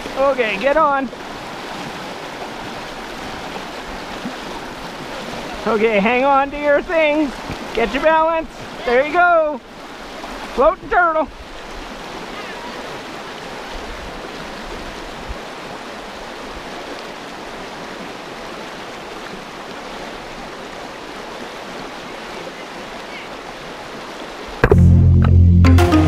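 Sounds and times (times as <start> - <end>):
river rapids over rocks: 0.0 - 24.6.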